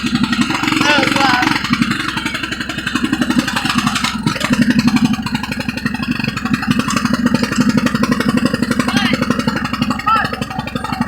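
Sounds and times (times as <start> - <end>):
riding lawnmower engine running: 0.0 - 11.0.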